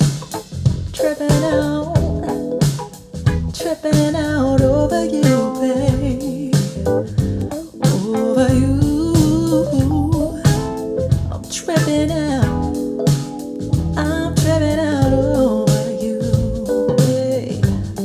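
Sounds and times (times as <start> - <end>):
soul blues song over loudspeakers: 0.0 - 18.0.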